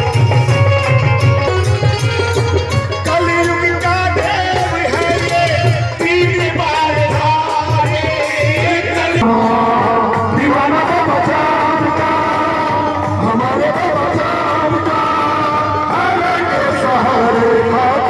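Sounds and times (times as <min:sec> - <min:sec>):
pulsing drum beat: 0:00.0 - 0:16.1
devotional song with singing: 0:00.0 - 0:18.0.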